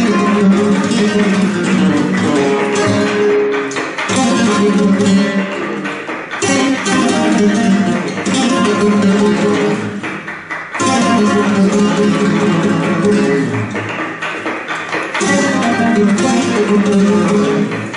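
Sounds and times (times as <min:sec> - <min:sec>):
sharp strummed guitar chords: 0:00.0 - 0:10.1, 0:10.8 - 0:14.0, 0:15.0 - 0:17.9
flamenco guitar playing: 0:00.0 - 0:17.9.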